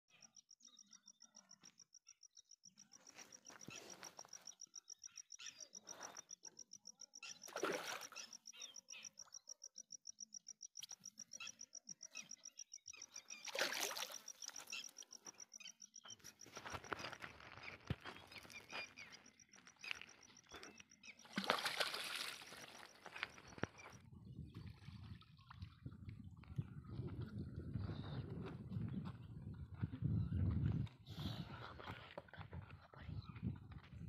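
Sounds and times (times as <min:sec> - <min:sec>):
outdoor background noise: 0:00.1 - 0:34.0.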